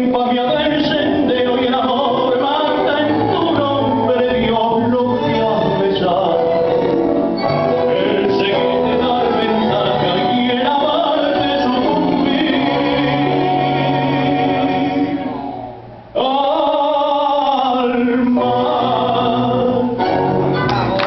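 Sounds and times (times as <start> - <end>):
tango song with male singer: 0.0 - 15.5, 16.1 - 21.0.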